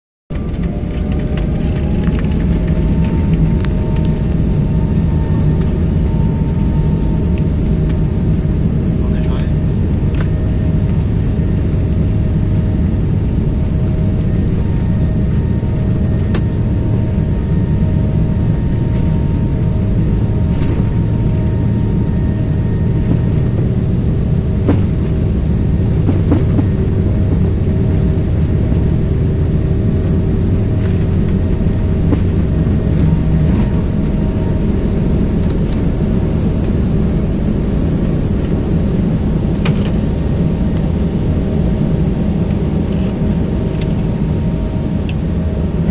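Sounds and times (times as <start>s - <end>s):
airliner engines and airflow rumble: 0.3s - 45.9s.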